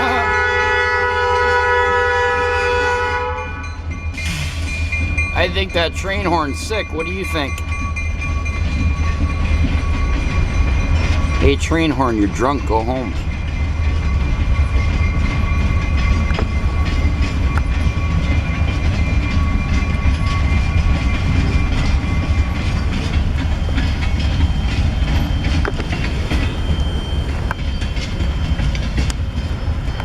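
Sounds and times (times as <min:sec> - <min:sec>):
freight train rumbling: 0:00.0 - 0:30.0
train wheels clicking on rails: 0:03.8 - 0:30.0.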